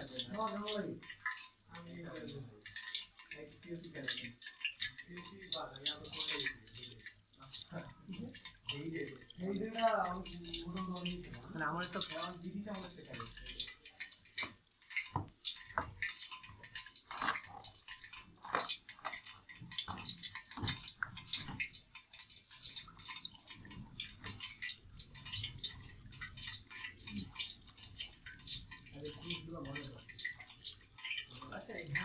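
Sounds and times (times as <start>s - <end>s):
tap water running onto hands: 0.0s - 32.0s.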